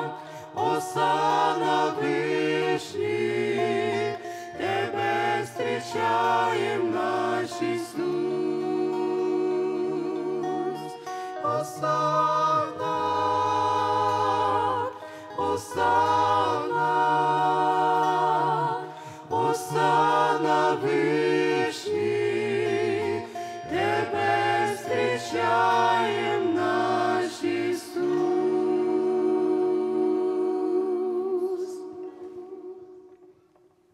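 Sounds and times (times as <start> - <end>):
mixed choir singing in harmony: 0.0 - 32.8.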